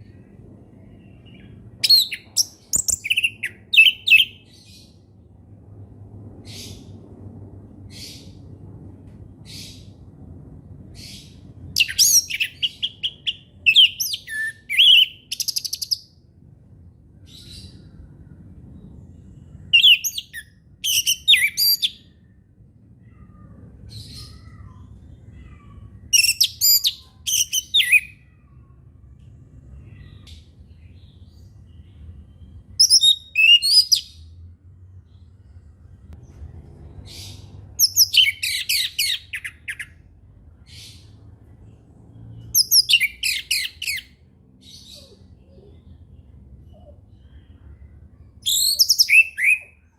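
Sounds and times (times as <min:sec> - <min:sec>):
faint low rumble: 0:00.0 - 0:49.9.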